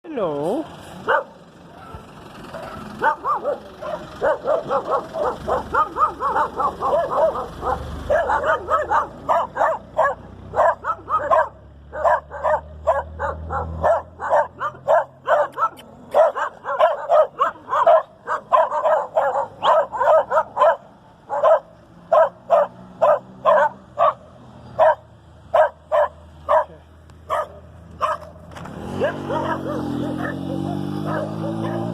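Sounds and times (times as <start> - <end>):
dog barking in high yips: 1.0 - 24.2, 24.8 - 31.9.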